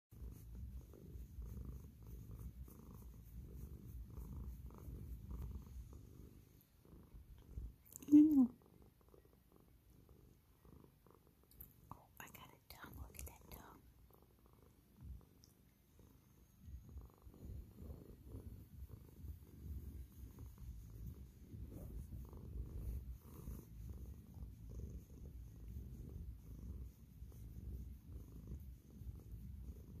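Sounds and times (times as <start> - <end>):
cat purring: 0.1 - 30.0.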